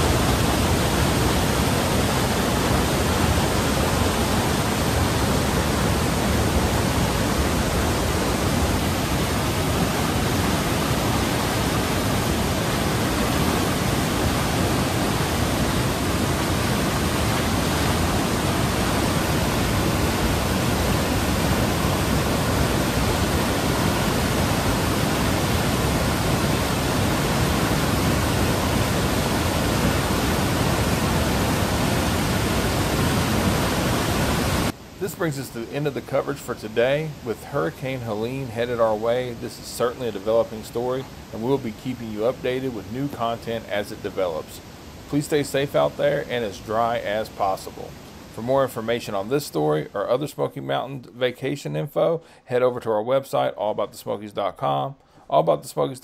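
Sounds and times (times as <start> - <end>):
river rushing over rocks: 0.0 - 49.7.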